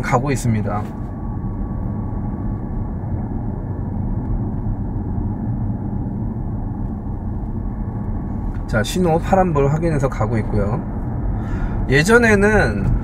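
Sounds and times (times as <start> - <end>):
tyre and road noise in car cabin: 0.0 - 13.0.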